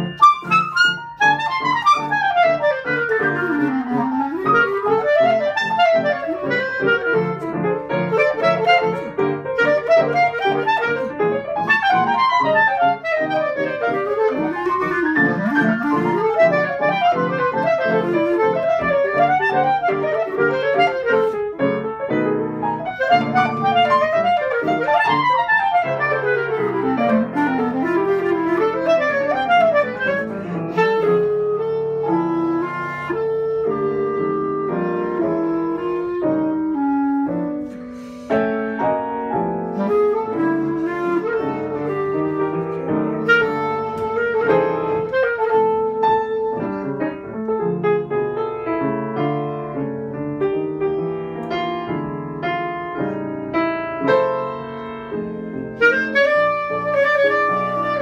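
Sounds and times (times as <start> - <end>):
clarinet melody: 0.0 - 58.0
piano chords: 0.0 - 58.0.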